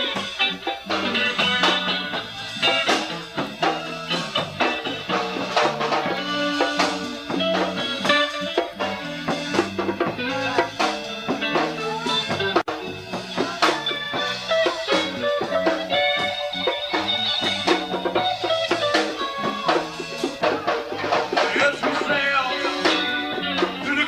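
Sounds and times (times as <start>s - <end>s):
bass guitar: 0.0s - 24.0s
bongos: 0.0s - 24.0s
drum kit: 0.0s - 24.0s
guitar: 0.0s - 24.0s
live band instrumental: 0.0s - 24.0s.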